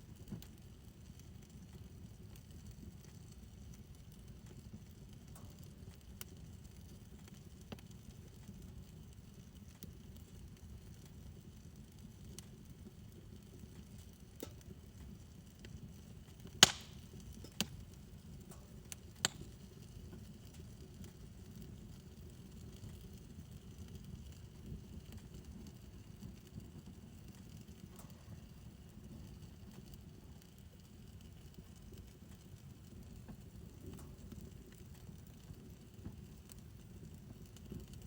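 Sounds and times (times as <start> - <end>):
fire crackling and rumbling: 0.0 - 38.0
fire popping and snapping: 0.0 - 38.0.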